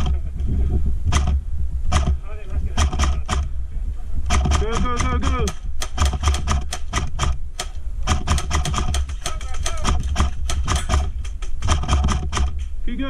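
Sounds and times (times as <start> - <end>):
low rumble of movement: 0.0 - 13.0
airsoft guns firing: 1.1 - 3.5, 4.3 - 12.7.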